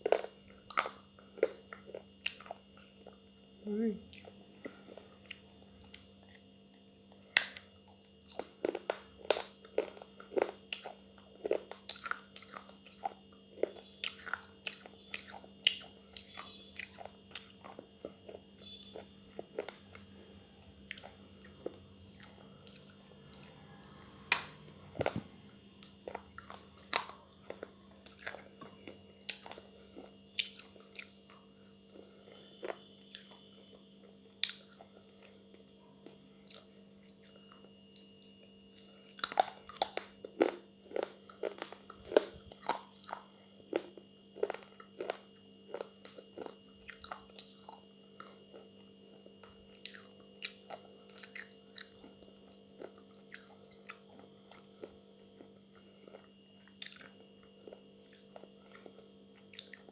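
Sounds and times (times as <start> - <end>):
chewing and crunching: 0.0 - 59.9
steady low hum: 0.0 - 59.9.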